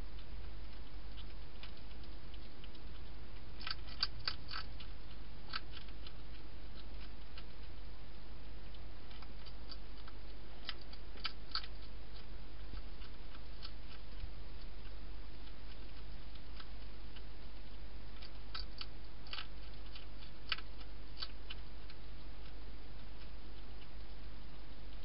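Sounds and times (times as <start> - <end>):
hedgehog crunching food: 0.0 - 25.0
steady low hum: 0.0 - 25.0.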